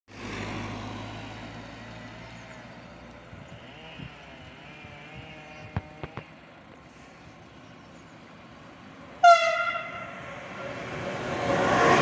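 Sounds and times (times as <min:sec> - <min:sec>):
car engine and tyre noise: 0:00.1 - 0:12.0.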